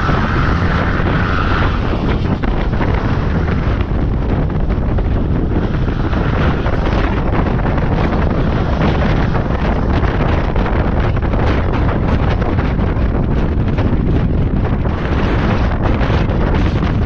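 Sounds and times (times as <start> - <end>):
truck running noise: 0.0 - 17.0
wind rushing over microphone: 0.0 - 17.0.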